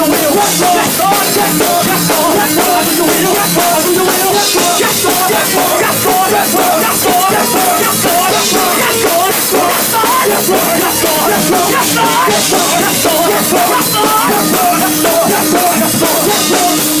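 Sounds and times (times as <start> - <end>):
loud dense accompaniment: 0.0 - 17.0
men's gospel group singing: 0.0 - 17.0.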